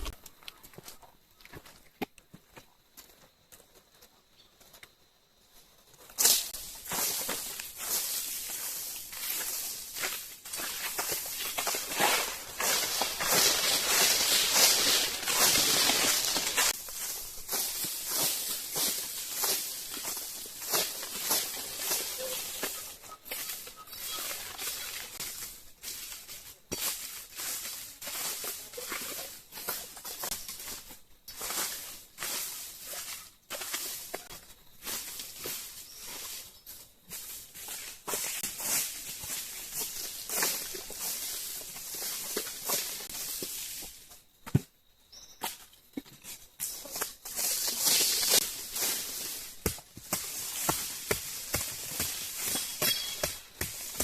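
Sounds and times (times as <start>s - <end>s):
footsteps: 0.0s - 4.9s, 5.5s - 44.7s, 45.4s - 54.0s
rustling: 5.6s - 44.0s, 46.6s - 54.0s.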